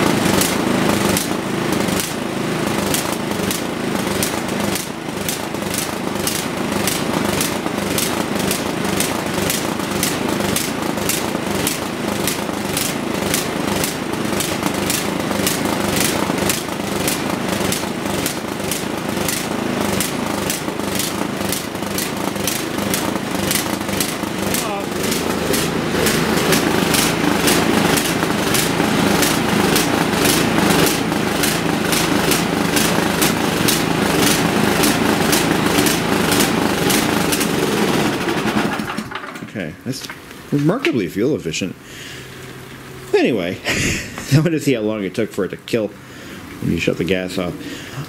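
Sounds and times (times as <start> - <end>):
snowblower engine running: 0.0 - 48.0.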